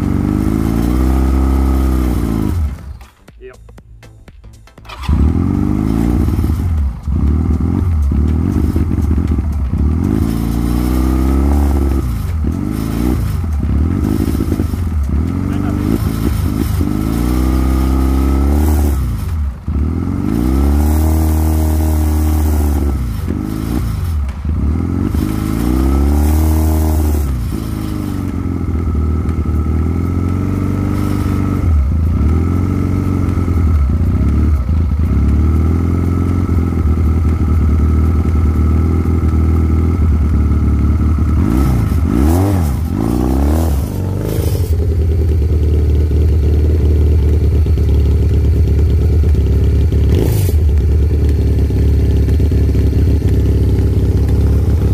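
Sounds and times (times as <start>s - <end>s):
atv engine revving: 0.0s - 3.5s, 4.7s - 54.9s.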